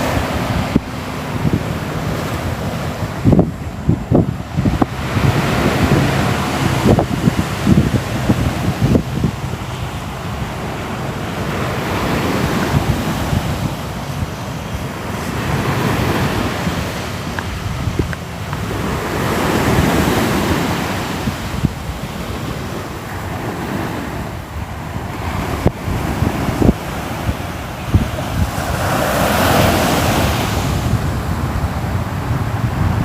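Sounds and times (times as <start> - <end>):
waves washing ashore: 0.0 - 33.0
wind buffeting microphone: 0.0 - 33.0.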